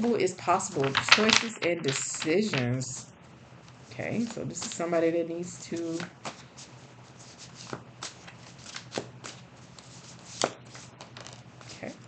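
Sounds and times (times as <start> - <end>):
cards being shuffled: 0.5 - 3.0, 4.1 - 5.0, 5.6 - 12.0.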